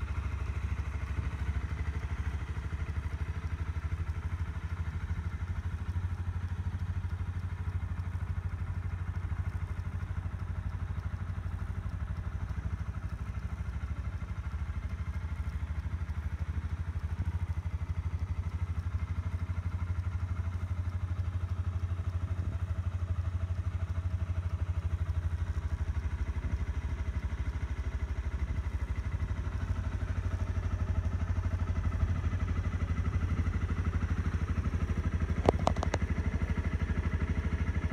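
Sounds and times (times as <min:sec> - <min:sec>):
motorcycle engine idling: 0:00.0 - 0:37.9.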